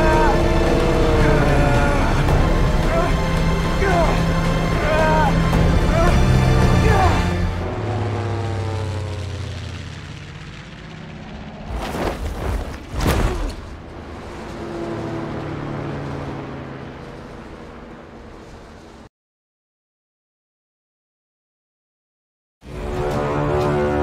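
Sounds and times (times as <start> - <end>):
piston aircraft engines droning: 0.0 - 19.1, 22.6 - 24.0.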